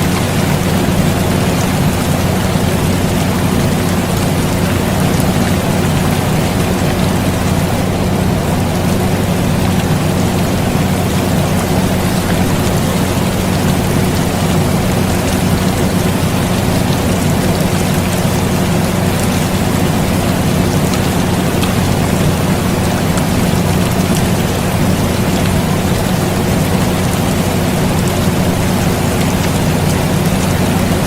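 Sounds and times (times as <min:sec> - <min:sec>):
air conditioner humming: 0:00.0 - 0:31.0
rain falling: 0:00.0 - 0:31.0.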